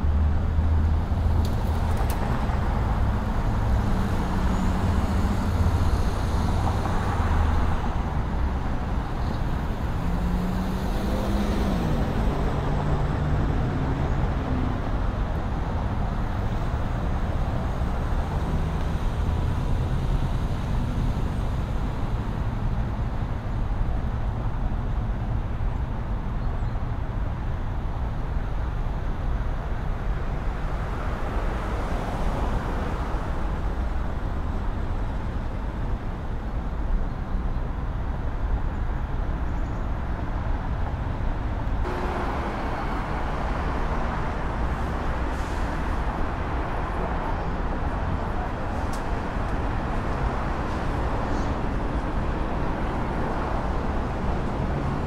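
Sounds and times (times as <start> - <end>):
traffic rumble: 0.0 - 55.0
vehicles passing: 0.0 - 55.0.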